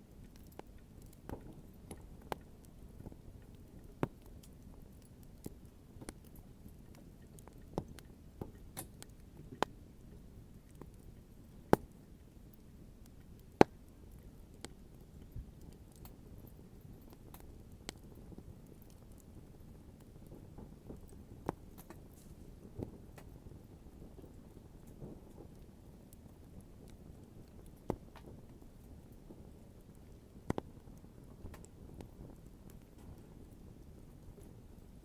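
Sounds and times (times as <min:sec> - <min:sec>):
bonfire crackling: 0:00.0 - 0:35.0.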